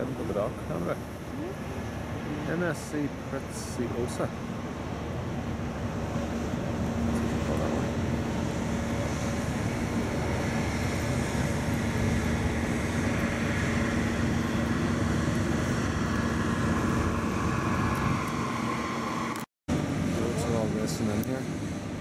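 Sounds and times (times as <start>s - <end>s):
low machinery hum: 0.0s - 22.0s.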